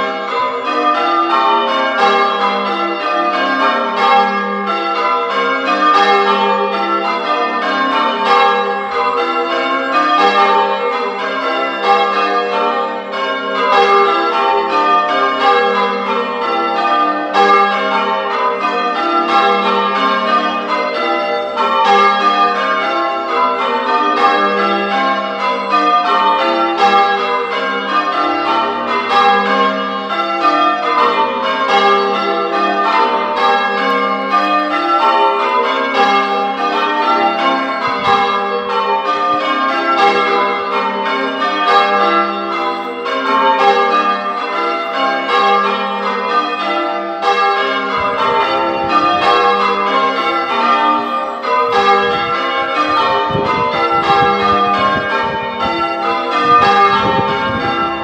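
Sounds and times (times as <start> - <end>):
church bells change ringing: 0.0 - 58.0.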